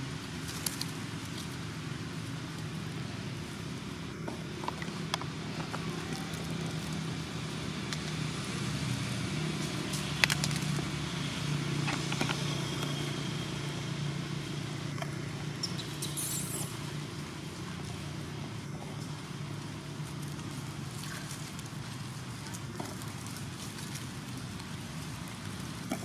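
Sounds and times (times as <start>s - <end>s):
dry leaves crackling: 0.0s - 26.0s
steady low hum: 0.0s - 26.0s.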